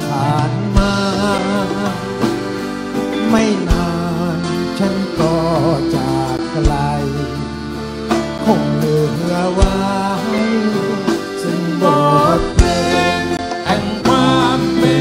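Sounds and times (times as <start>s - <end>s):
folk-rock band music: 0.0s - 15.0s
man singing: 0.0s - 15.0s.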